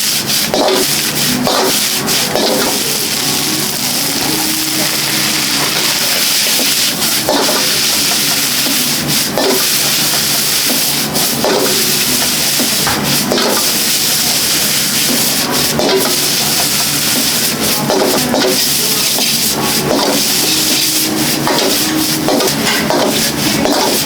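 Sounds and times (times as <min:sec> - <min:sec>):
metal ladle scraping wok: 0:00.0 - 0:24.0
rice sizzling in a wok: 0:00.0 - 0:24.0.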